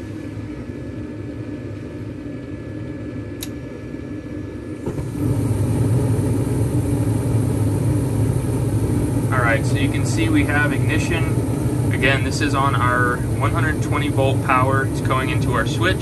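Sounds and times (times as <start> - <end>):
burner flames rumbling: 0.0 - 16.0
inducer motor humming: 0.0 - 16.0.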